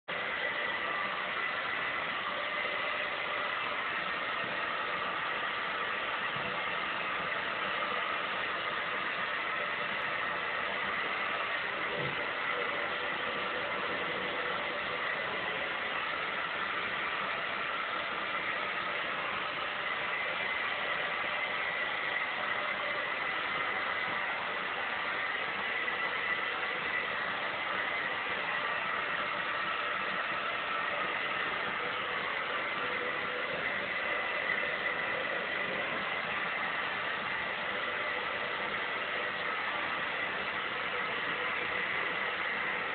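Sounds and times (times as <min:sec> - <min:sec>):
faint constant hum: 0:00.1 - 0:42.9
steady hiss: 0:00.1 - 0:42.9.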